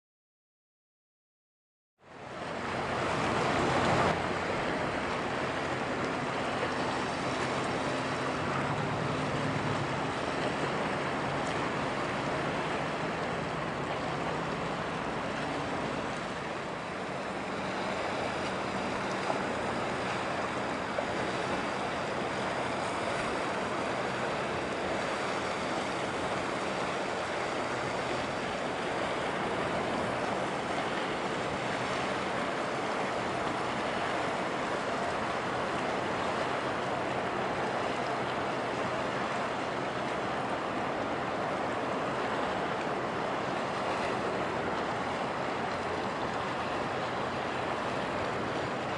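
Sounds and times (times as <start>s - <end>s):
ship engine hum: 2.0s - 48.9s
waves washing: 2.0s - 48.9s
wind over water: 2.0s - 48.9s.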